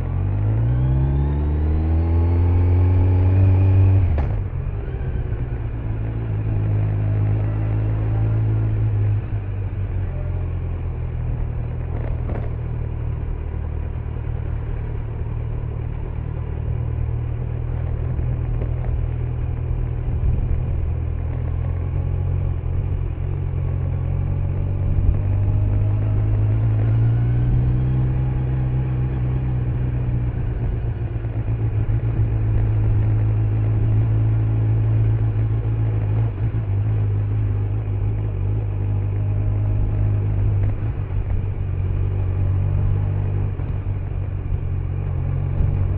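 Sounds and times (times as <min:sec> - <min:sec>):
motorcycle engine rumbling: 0:00.0 - 0:45.9.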